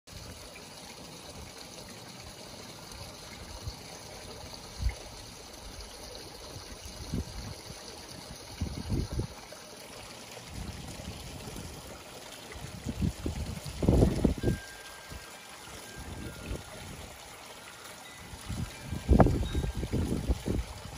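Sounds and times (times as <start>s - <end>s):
water trickling: 0.1s - 20.9s.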